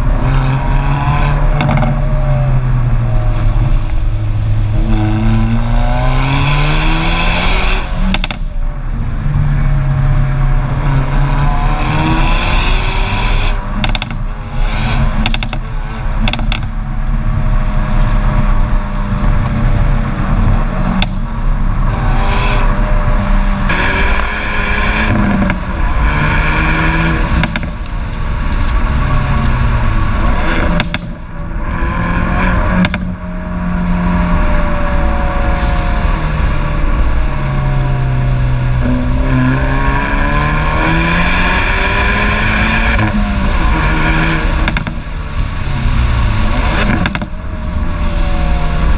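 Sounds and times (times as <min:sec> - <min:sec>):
car engine revving: 0:00.0 - 0:48.9
exhaust cracks: 0:00.0 - 0:48.9.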